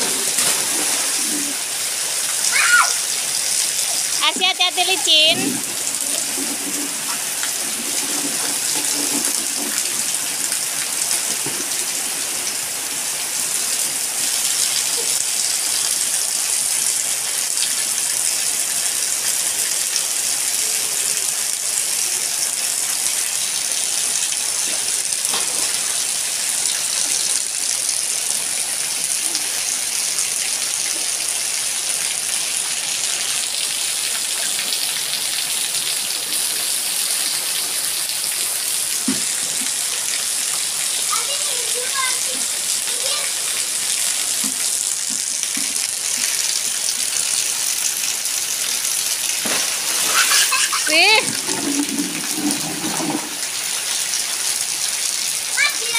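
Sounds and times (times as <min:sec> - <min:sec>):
heavy rain on concrete: 0:00.0 - 0:55.9
water gushing from roof spout: 0:00.0 - 0:55.9.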